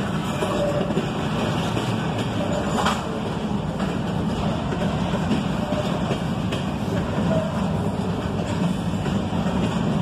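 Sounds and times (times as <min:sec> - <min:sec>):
steel wheels rumbling on rails: 0:00.0 - 0:10.0.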